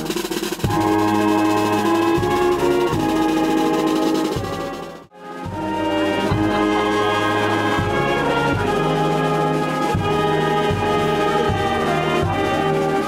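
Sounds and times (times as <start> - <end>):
brass band playing slow chords: 0.0 - 13.0.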